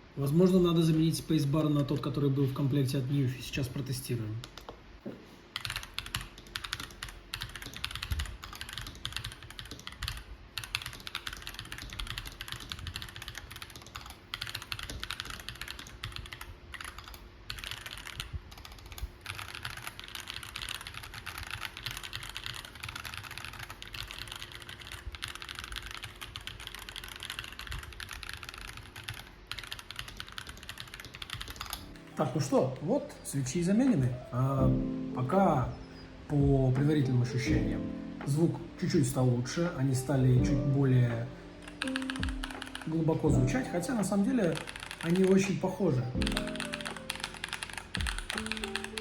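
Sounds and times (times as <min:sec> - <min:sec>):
mechanical keyboard typing: 0:05.5 - 0:33.1, 0:36.7 - 0:49.0.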